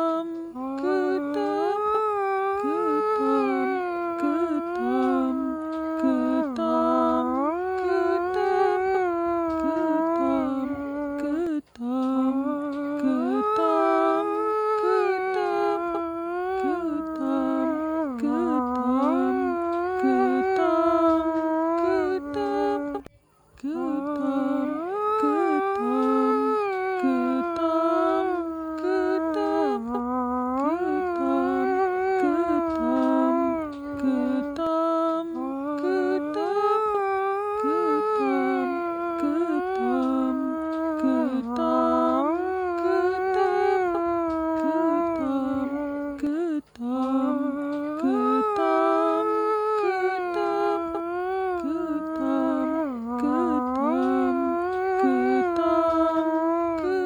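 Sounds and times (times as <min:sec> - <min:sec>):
person humming a sad melody: 0:00.0 - 0:57.0.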